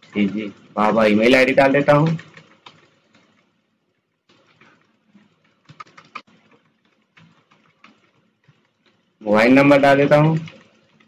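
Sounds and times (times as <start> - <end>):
typing on keyboard: 0.0 - 3.5, 4.3 - 11.0.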